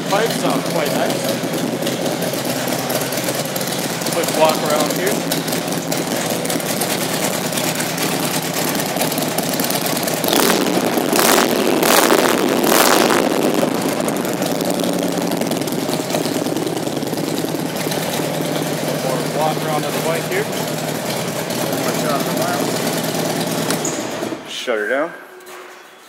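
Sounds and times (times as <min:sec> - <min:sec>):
motorcycle engine idling: 0:00.0 - 0:24.5.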